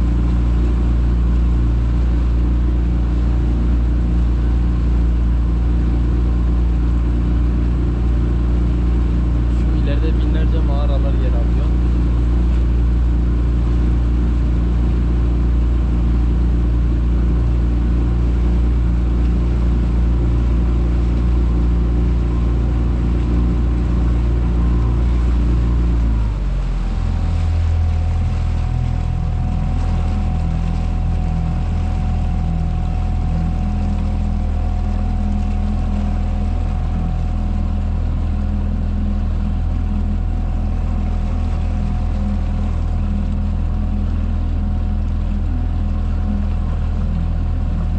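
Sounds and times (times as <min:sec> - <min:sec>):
motorboat engine running: 0:00.0 - 0:47.9.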